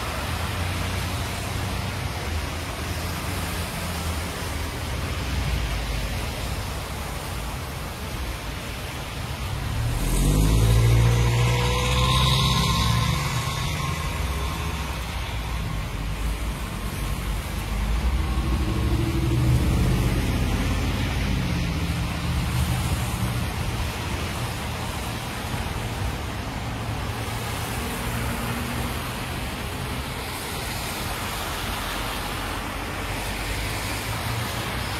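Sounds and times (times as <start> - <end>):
car engines passing: 0.0 - 34.9
tyres hissing on wet road: 0.0 - 34.9.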